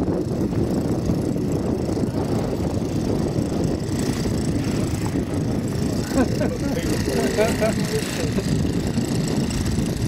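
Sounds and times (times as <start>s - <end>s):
engine low rumble: 0.0s - 10.0s.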